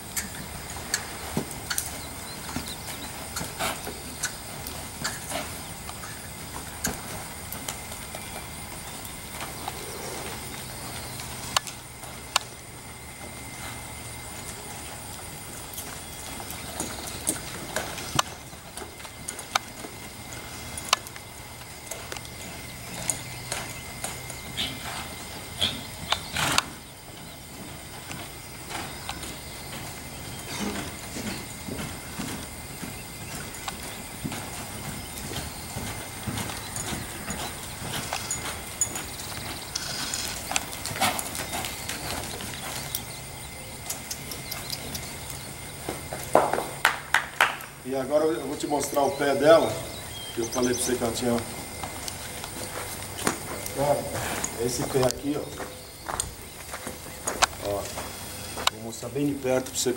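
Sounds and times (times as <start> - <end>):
horse hooves on soft dirt: 0.0 - 59.9.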